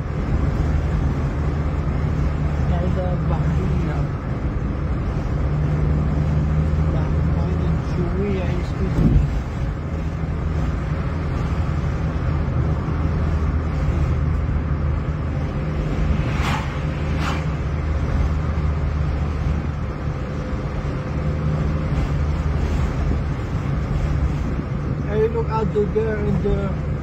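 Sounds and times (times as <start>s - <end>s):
car engine and tyre drone: 0.0s - 27.0s.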